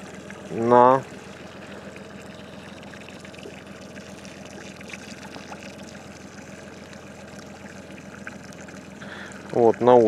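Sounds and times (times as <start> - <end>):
steady low hum: 0.0 - 10.0
water lapping against hull: 0.0 - 10.0.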